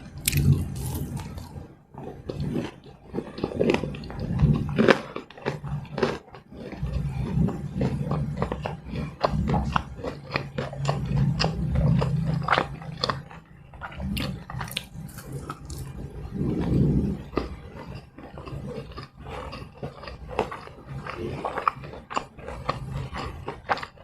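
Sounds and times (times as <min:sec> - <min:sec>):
crunchy chewing of fried snacks: 0:00.0 - 0:24.0
wet mouth sounds: 0:00.0 - 0:24.0.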